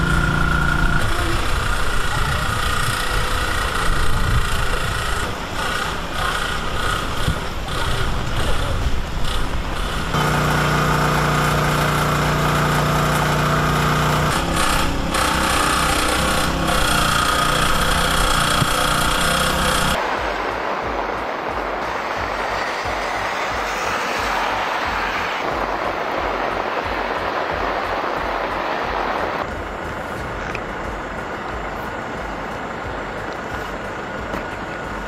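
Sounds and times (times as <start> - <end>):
water gushing from hose: 0.0 - 30.4
engine-driven water pump running: 0.0 - 35.0
steady motor hum: 0.0 - 35.0.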